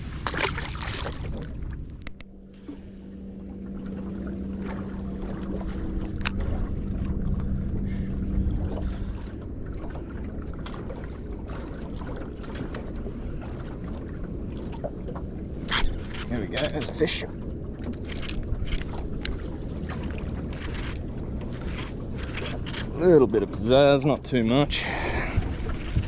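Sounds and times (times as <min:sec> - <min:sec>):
boat motor rumbling: 0:00.0 - 0:26.0.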